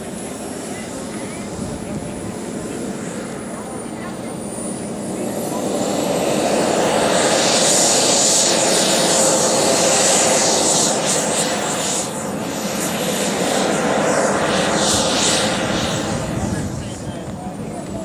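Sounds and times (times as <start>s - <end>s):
model jet engines whining: 0.0s - 18.0s.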